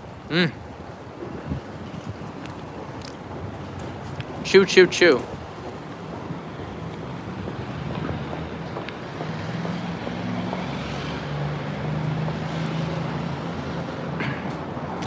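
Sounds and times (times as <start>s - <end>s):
car engines and tyre noise: 0.0s - 15.0s.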